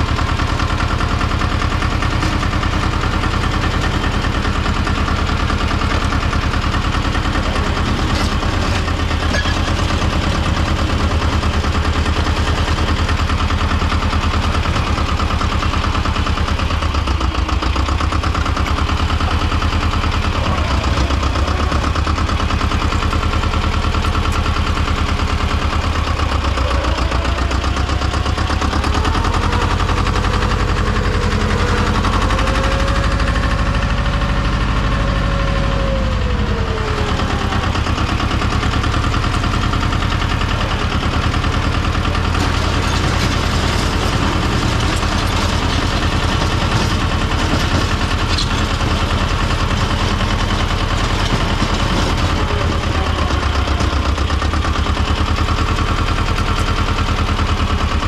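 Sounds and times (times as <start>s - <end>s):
tractor diesel engine chugging: 0.0s - 58.0s.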